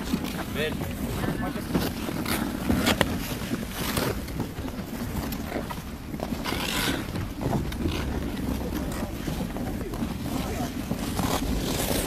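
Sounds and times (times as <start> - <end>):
ice skate blades scraping ice: 0.0 - 12.0.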